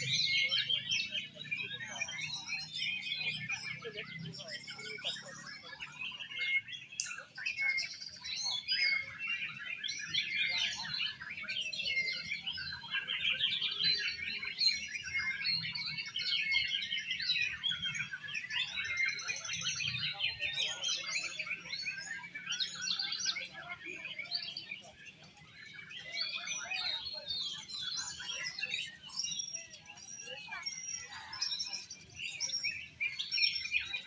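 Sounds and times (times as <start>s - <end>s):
songbirds chattering and whistling: 0.0s - 34.0s.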